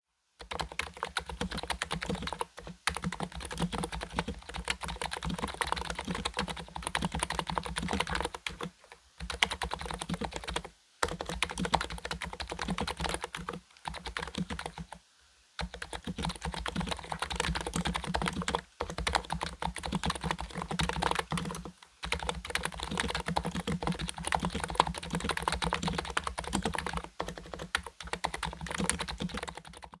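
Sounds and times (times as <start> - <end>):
fast keyboard typing: 0.4 - 15.0, 15.6 - 30.0.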